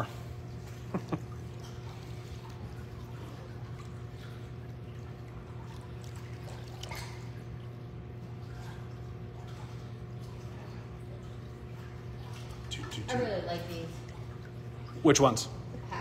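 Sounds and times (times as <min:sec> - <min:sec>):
churning water: 0:00.0 - 0:16.0
soft splashes: 0:00.0 - 0:16.0
steady low hum: 0:00.0 - 0:16.0.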